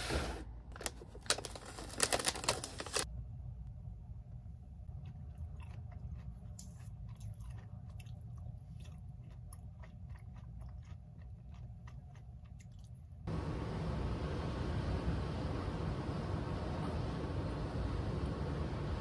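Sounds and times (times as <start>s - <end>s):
steady low hum: 2.9s - 19.0s.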